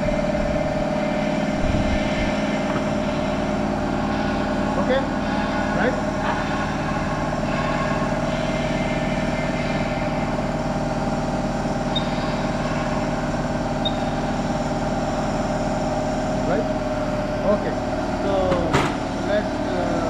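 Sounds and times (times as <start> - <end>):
lab equipment hum: 0.0 - 20.0.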